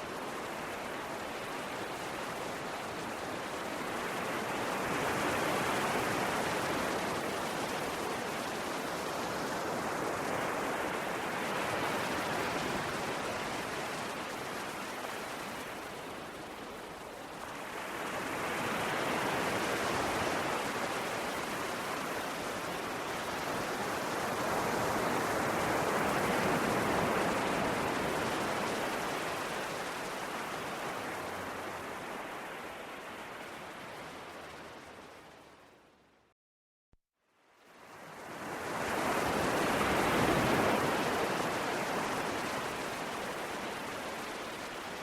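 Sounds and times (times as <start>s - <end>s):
sea waves washing onto shore: 0.0s - 35.3s, 37.8s - 45.0s.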